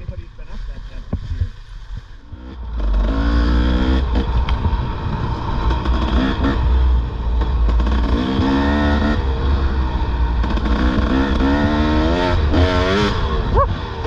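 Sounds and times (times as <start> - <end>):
dirt bike engine revving: 2.2 - 14.0.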